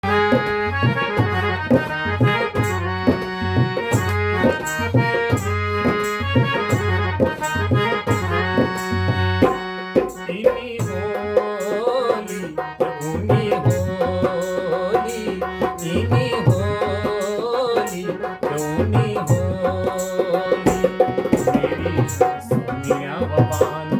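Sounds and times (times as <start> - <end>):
harmonium melody: 0.0 - 23.9
dholak drum strokes: 0.1 - 23.9.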